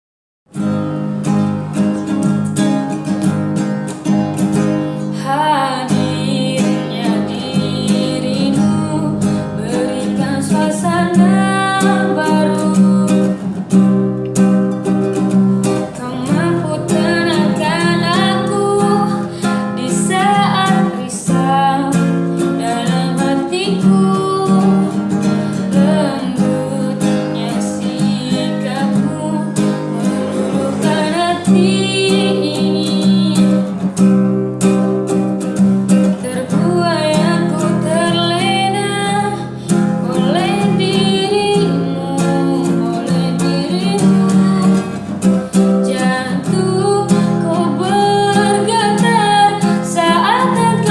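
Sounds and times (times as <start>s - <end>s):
acoustic guitar strumming: 0.5s - 50.9s
person singing: 4.8s - 13.5s, 15.7s - 33.8s, 36.1s - 50.9s.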